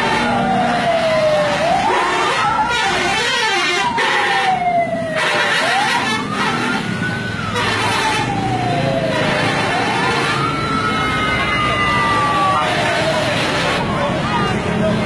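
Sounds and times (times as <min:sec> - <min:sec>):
siren wailing: 0:00.0 - 0:14.6
road and engine noise: 0:00.0 - 0:15.0.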